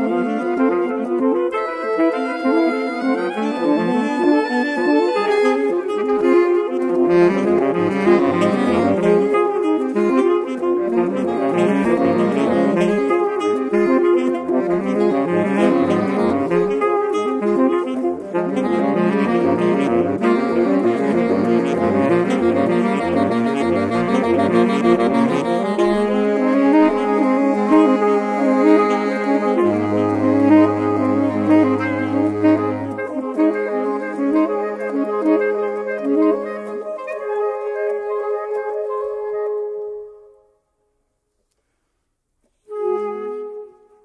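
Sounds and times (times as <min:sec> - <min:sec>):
saxophone quartet playing: 0:00.0 - 0:40.6, 0:42.6 - 0:44.0.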